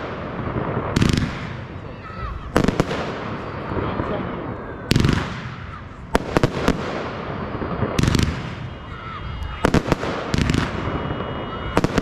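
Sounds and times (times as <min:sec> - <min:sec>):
fireworks cracking: 0:00.0 - 0:12.0.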